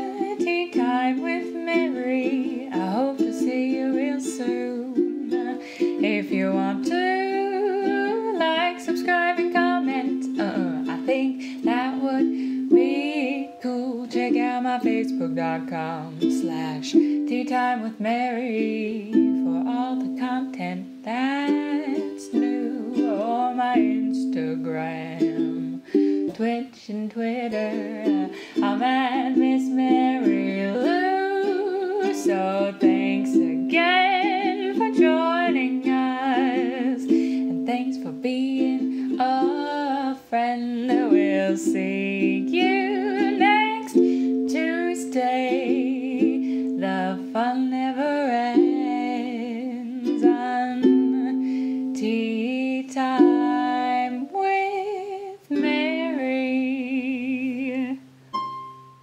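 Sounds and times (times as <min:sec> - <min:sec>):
woman singing with vibrato: 0:00.0 - 0:58.2
ukulele accompaniment: 0:00.0 - 0:59.0.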